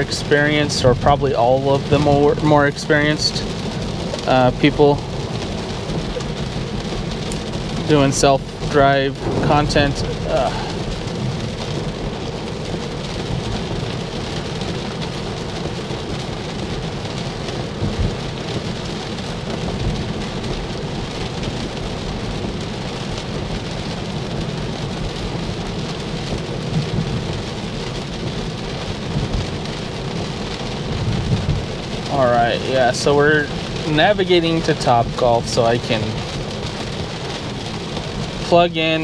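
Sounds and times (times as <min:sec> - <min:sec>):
rain on a car: 0:00.0 - 0:39.0
tyres rumbling on wet road: 0:00.0 - 0:39.0.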